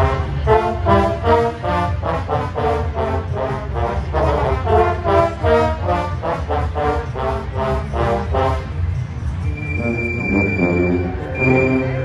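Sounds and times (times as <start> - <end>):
marching band brass playing: 0.0 - 12.0
steady low bass: 0.0 - 12.0.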